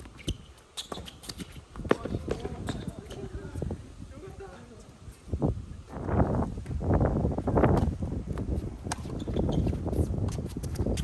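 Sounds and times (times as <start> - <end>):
wind buffeting microphone: 1.4 - 11.0.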